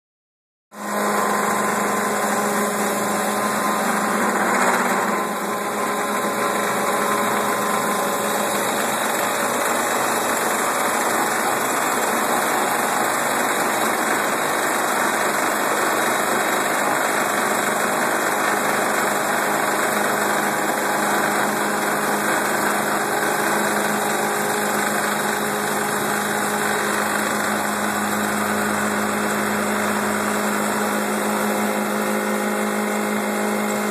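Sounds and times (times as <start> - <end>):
cutter shaving wood: 0.8 - 33.9
lathe motor hum: 0.8 - 33.9.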